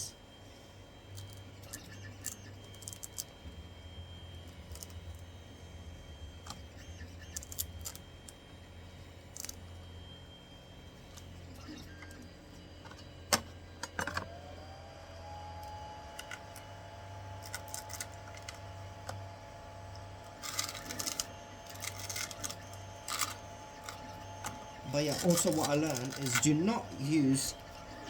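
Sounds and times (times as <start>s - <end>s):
faint whine: 0.0s - 28.0s.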